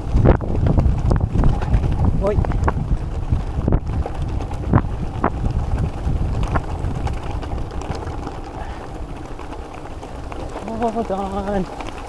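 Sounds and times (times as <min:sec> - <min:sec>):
bike knocking over stones: 0:00.0 - 0:12.0
bike rumbling on gravel: 0:00.0 - 0:12.0
wind buffeting microphone: 0:00.0 - 0:12.0.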